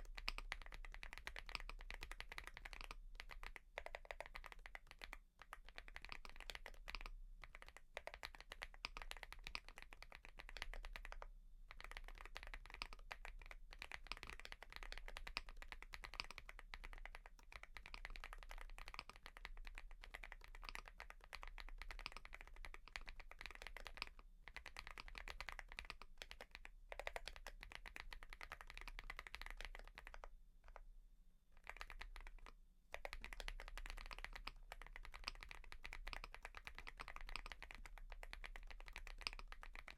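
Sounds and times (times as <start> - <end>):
fast mechanical keyboard typing: 0.0 - 30.8, 31.6 - 39.9.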